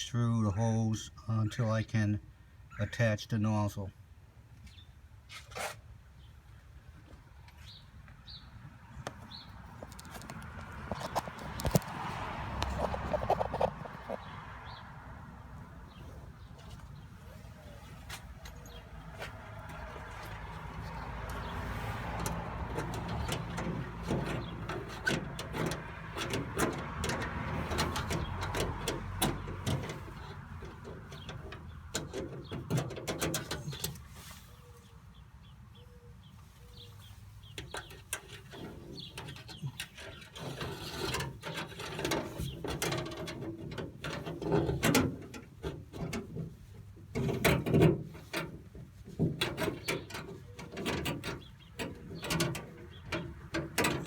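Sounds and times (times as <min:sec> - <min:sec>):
wire and hose scraping and rustling: 0:05.3 - 0:05.9, 0:09.1 - 0:35.2, 0:36.3 - 0:54.0.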